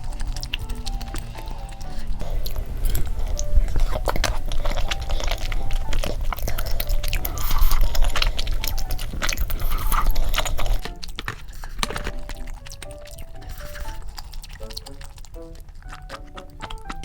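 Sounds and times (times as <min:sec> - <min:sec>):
close-miked chewing: 0:00.0 - 0:17.0
light background melody: 0:00.0 - 0:17.0.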